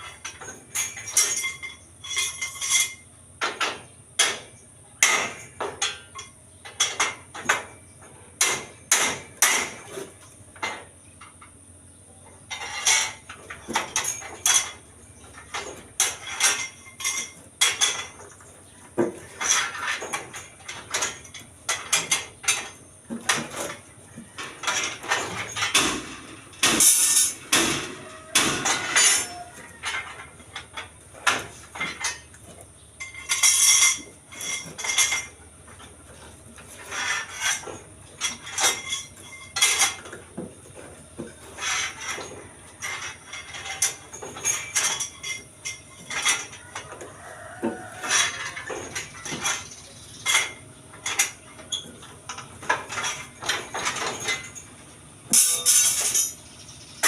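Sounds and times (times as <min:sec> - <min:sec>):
steel bars clinking together: 0:00.0 - 0:11.6, 0:12.4 - 0:57.0.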